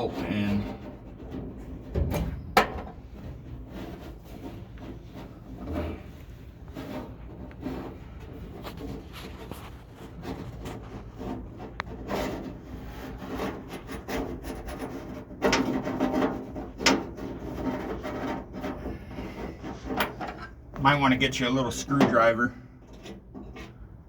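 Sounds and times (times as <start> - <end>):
metal bracket scraping inside pillar: 0.0 - 23.9.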